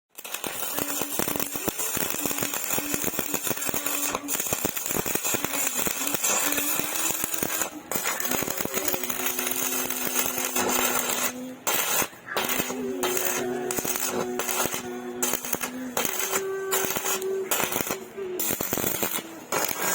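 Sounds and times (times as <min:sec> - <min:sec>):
welding arc crackling: 0:00.1 - 0:19.9
hum: 0:00.7 - 0:19.9.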